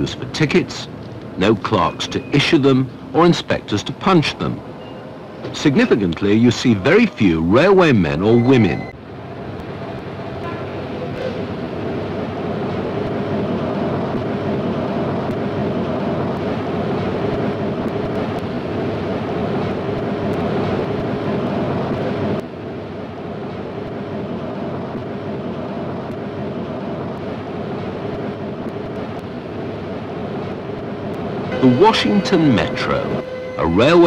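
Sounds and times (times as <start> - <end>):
subway train running: 0.0 - 34.0.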